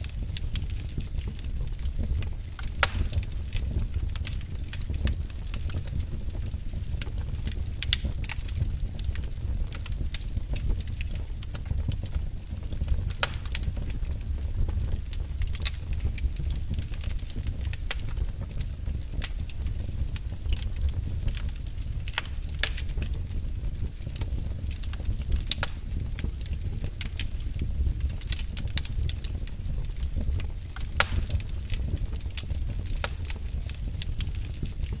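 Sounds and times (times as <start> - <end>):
wood fire crackling in a fireplace: 0.0 - 35.0.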